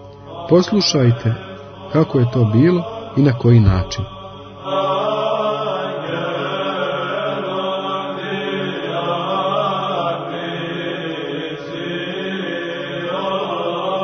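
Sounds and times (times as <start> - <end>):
slow choral chant: 0.0 - 14.0.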